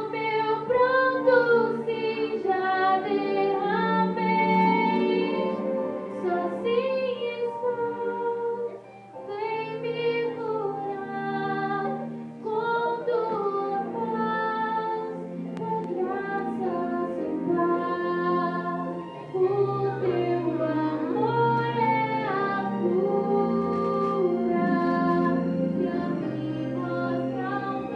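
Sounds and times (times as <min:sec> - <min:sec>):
voices singing with accompaniment: 0:00.0 - 0:27.9.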